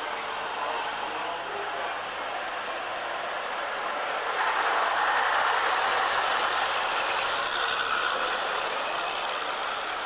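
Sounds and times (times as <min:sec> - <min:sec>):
tram wheels running on rails: 0:00.0 - 0:10.0.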